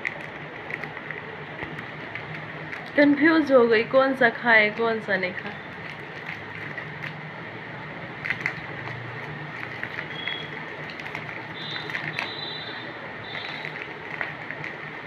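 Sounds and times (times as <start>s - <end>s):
plastic wrappers crinkling: 0.0s - 3.6s, 4.4s - 15.0s
steady background noise: 0.0s - 15.0s.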